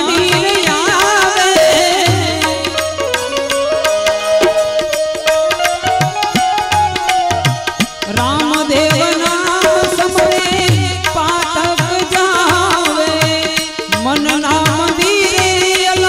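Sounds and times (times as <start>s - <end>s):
harmonium melody: 0.0s - 16.0s
tabla beat: 0.0s - 16.0s.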